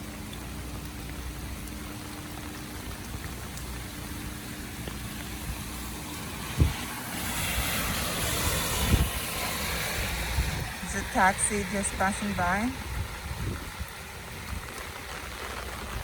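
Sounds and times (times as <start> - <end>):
rain hissing on street: 0.0 - 16.0
tyres hissing on wet road: 0.0 - 16.0.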